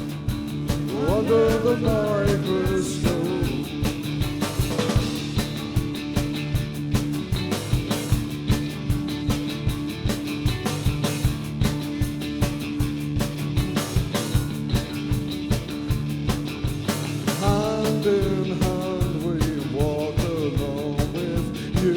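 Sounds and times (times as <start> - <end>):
drum kit beat: 0.0 - 21.9
rock band playing instrumental: 0.0 - 21.9.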